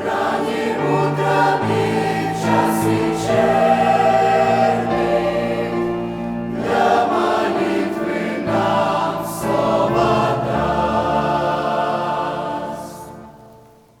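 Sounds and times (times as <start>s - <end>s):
choir singing a hymn: 0.0s - 14.0s.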